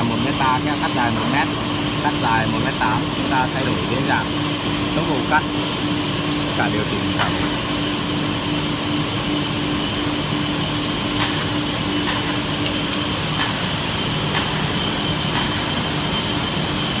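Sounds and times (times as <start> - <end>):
panel saw humming with high whine: 0.0 - 17.0.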